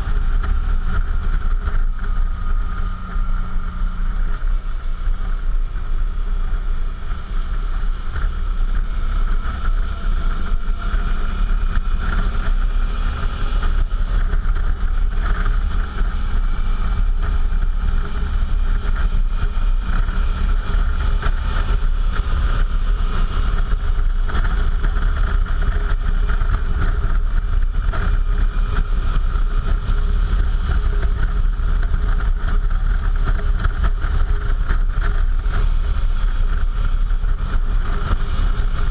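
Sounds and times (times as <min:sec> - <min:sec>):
motorcycle engine drone: 0:00.0 - 0:38.9
wind rush on microphone: 0:00.0 - 0:38.9.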